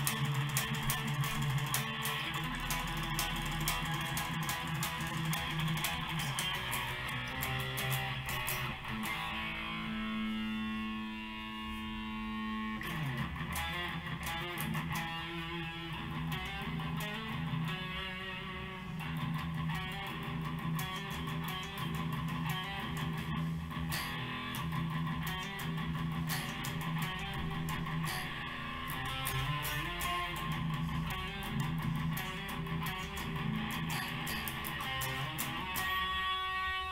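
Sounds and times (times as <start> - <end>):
electric guitar playing: 0.0 - 36.9.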